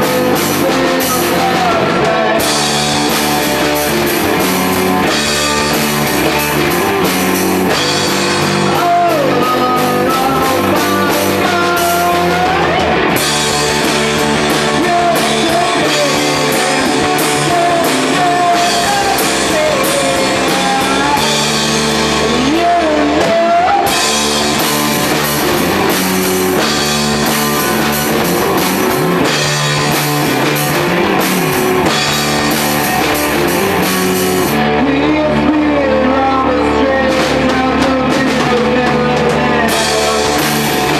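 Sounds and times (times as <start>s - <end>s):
psychedelic rock band playing: 0.0s - 40.9s
sliding bending lead melody: 0.0s - 40.9s.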